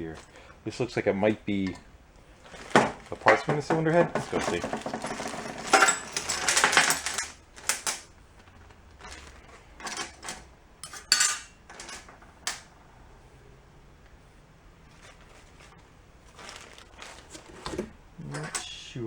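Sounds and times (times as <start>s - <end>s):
metal parts clinking and rattling: 0.0s - 13.0s, 14.9s - 18.7s.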